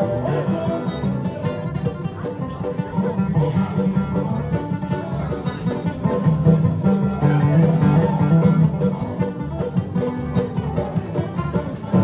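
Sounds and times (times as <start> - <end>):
bluegrass band playing: 0.0 - 12.0.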